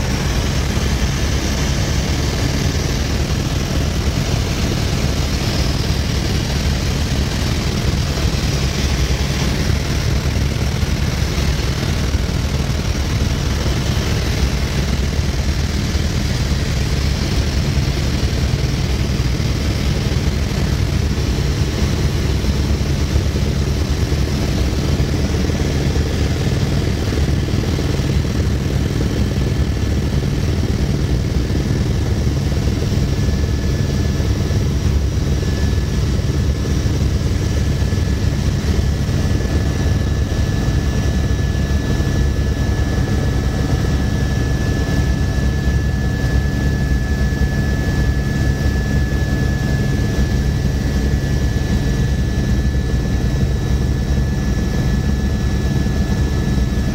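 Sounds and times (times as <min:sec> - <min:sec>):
helicopter rotor and engine noise: 0:00.0 - 0:56.9.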